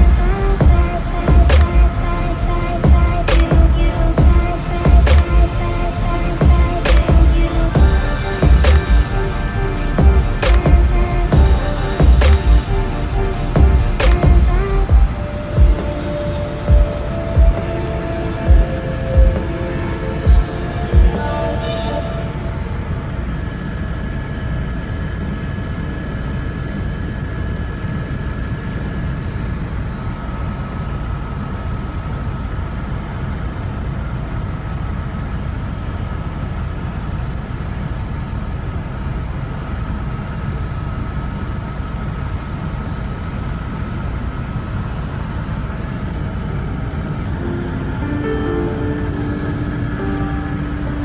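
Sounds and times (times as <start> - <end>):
faint steady whine: 0.0 - 51.0.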